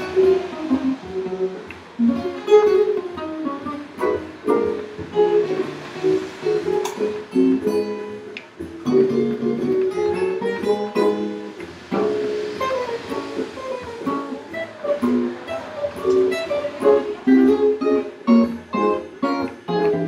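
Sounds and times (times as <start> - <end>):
archtop guitar jazz solo: 0.0 - 20.0.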